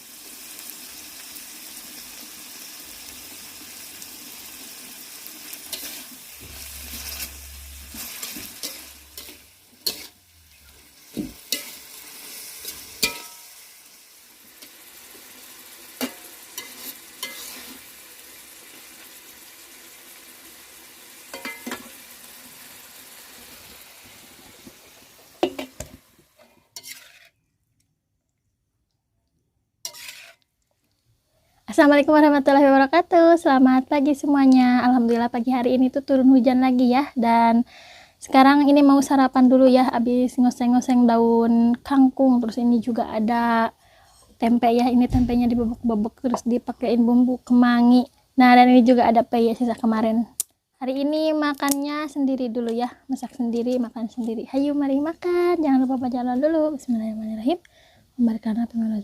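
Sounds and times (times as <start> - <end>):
food sizzling in a frying pan: 0.0 - 27.4, 29.8 - 30.5, 31.7 - 37.6, 38.2 - 59.0.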